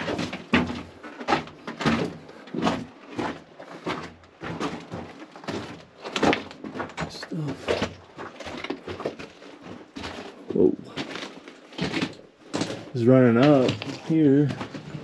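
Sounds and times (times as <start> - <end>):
footsteps in a tunnel: 0.0 - 15.0.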